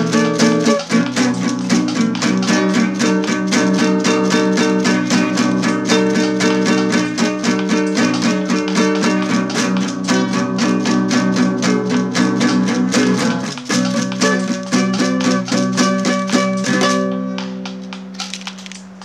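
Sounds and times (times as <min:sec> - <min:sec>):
classical guitar strumming: 0:00.0 - 0:19.0.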